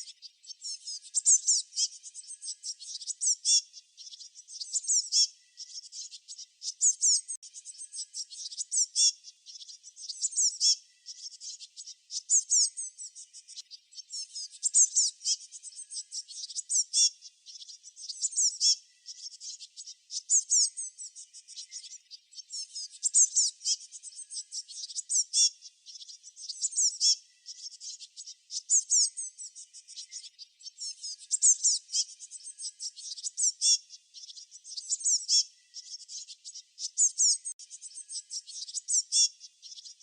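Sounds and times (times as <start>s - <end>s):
songbirds chirping: 0.0s - 40.0s
steady fast bird trill: 0.0s - 40.0s.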